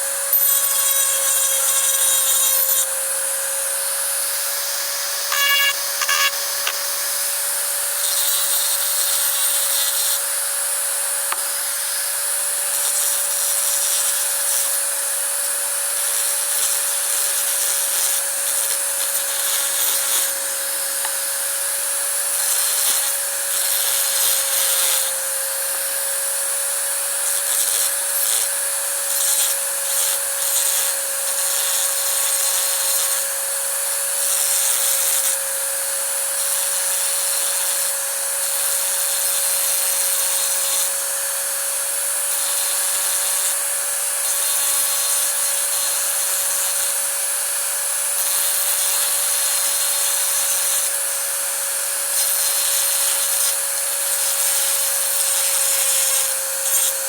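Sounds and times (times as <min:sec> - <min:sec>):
small electric power tool running: 0:00.0 - 0:57.0.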